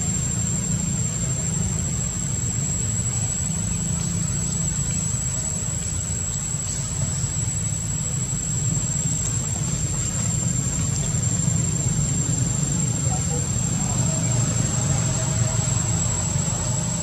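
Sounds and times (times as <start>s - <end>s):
high-pitched whine: 0.0s - 17.0s
low engine-like hum: 0.0s - 17.0s.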